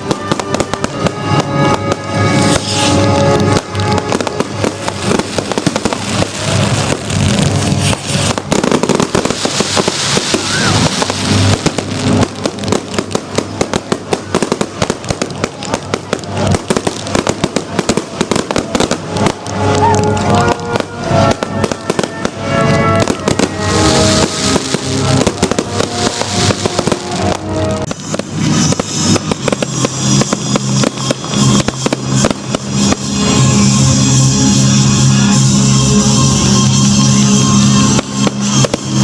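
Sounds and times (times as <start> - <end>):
background music: 0.0 - 15.3, 16.1 - 39.0
fireworks bangs and crackling: 0.0 - 39.0
hissing crackle: 0.0 - 39.0.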